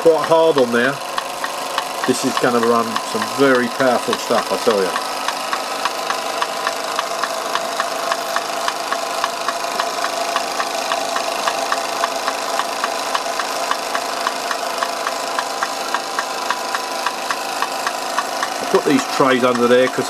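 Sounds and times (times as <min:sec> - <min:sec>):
even clicking: 0:00.0 - 0:20.0
toy steam engine running: 0:00.0 - 0:20.0.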